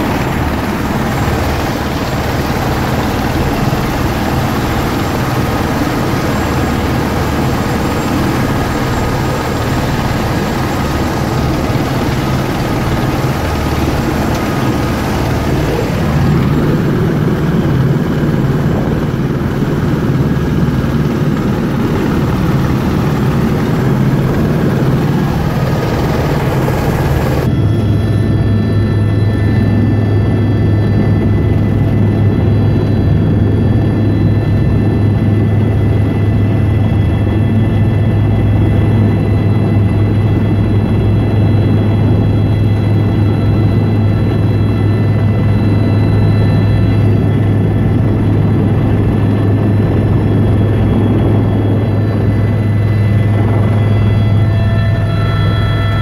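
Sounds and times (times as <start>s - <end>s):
helicopter droning in flight: 0.0s - 56.0s
helicopter running on ground: 0.0s - 56.0s.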